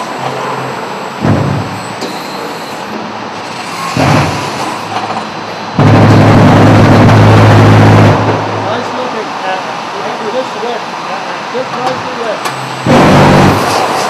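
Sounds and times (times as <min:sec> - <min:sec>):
machinery clanks: 0:00.0 - 0:09.4, 0:11.6 - 0:14.0
machinery low hum: 0:00.0 - 0:14.0.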